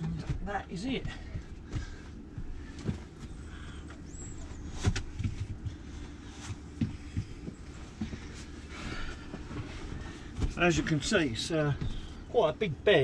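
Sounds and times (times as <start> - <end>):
low steady hum: 0.0 - 13.0
shuffling on padded cushions: 0.3 - 12.5.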